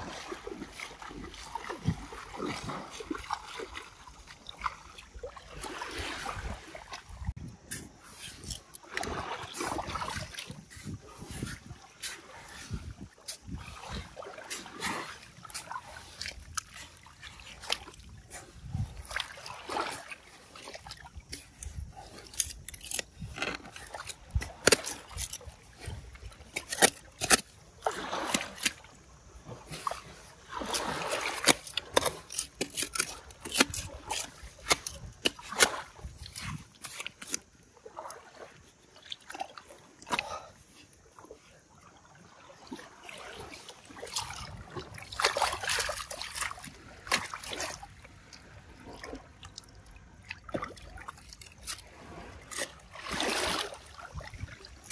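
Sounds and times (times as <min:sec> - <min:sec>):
water splashing in shallows: 0:00.0 - 0:54.9.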